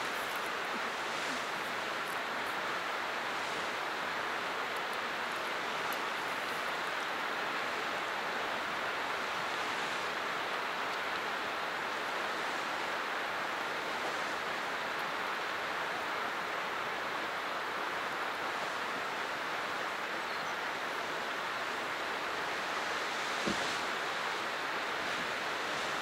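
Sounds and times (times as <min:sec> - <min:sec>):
geyser water splashing: 0:00.0 - 0:20.1, 0:20.9 - 0:26.0.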